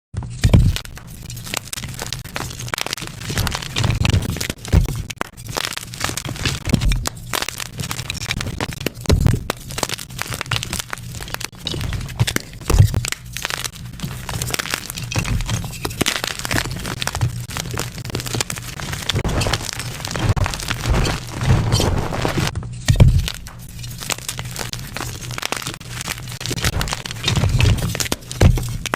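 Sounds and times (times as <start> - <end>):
chalk block crunching: 0.4 - 28.9.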